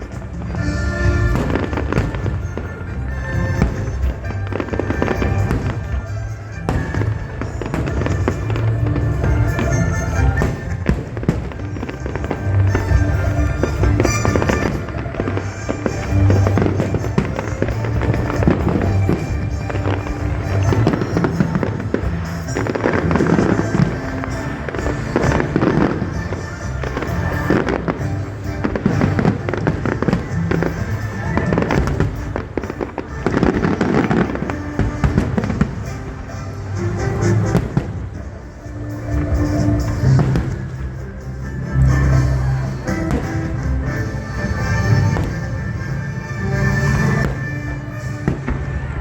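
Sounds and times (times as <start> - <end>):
fireworks bursting and crackling: 0.0 - 49.0
music playing: 0.0 - 49.0.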